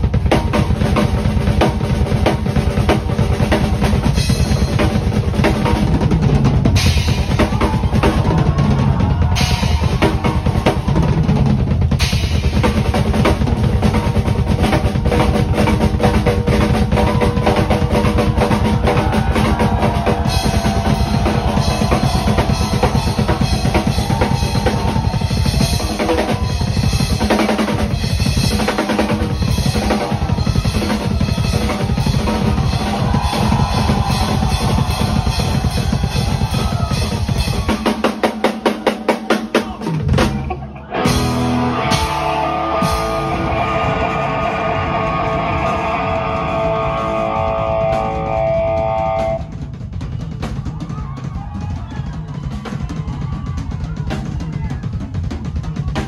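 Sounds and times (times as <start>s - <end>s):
bass drum beats: 0.0s - 38.1s, 39.6s - 56.0s
drum kit solo: 0.0s - 56.0s.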